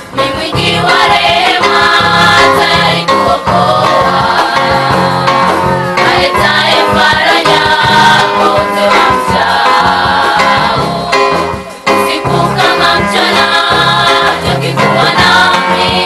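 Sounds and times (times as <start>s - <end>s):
girls choir singing gospel: 0.0s - 16.0s.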